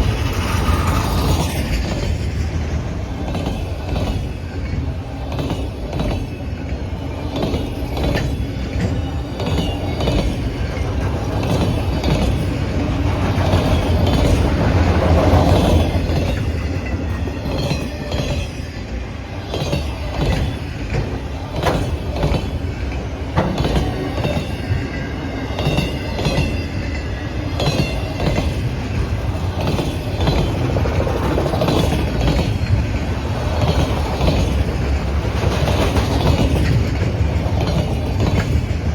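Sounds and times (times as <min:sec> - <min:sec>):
freight train cars rolling: 0:00.0 - 0:38.9
steel wheels clicking over rail joints: 0:00.0 - 0:38.9.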